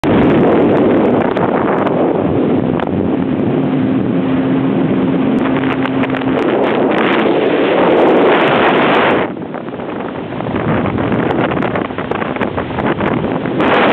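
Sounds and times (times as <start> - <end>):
jet ski engine: 0.0 - 13.9
water rushing: 0.0 - 13.9
wind buffeting microphone: 0.0 - 13.9.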